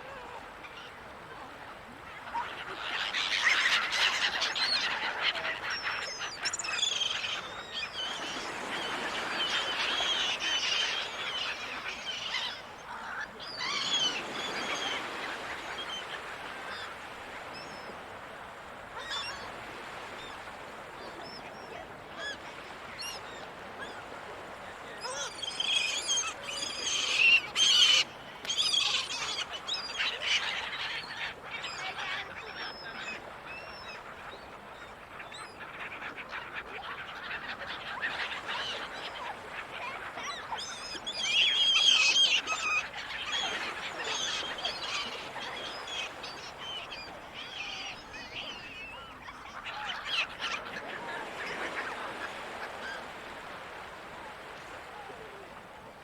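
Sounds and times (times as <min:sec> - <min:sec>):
gulls calling: 0:02.4 - 0:18.0, 0:19.0 - 0:34.0, 0:35.5 - 0:55.5.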